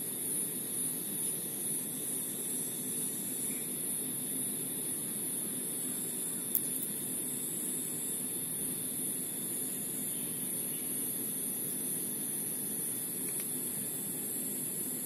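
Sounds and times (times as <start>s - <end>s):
steady high-pitched hiss: 0.0s - 15.0s.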